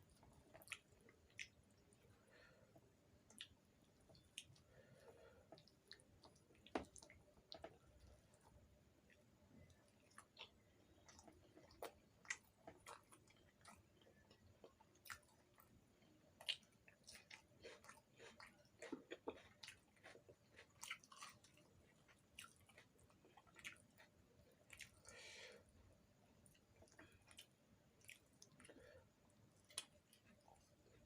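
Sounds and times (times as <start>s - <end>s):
close-miked chewing: 0.0s - 2.1s, 2.7s - 25.2s, 26.4s - 31.0s.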